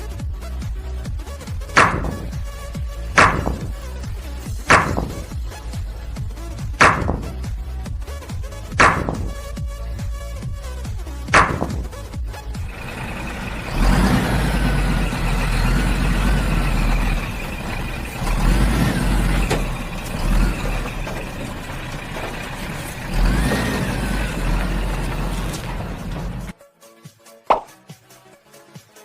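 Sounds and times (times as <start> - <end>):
tractor engine revving: 0.4 - 26.5.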